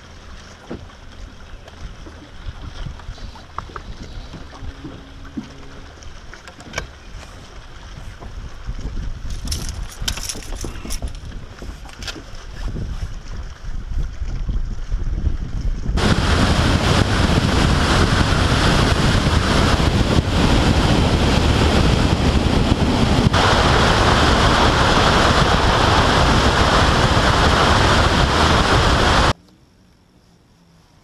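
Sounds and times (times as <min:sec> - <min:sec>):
water rushing past boat hull: 0:00.0 - 0:29.4
wind buffeting microphone: 0:01.8 - 0:29.4.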